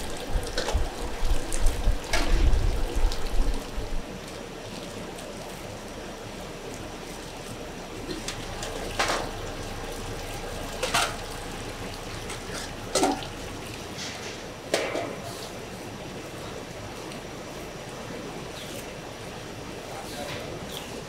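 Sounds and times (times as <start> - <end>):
liquid splashing and pouring: 0.0 - 18.0
steady background noise: 0.0 - 21.0.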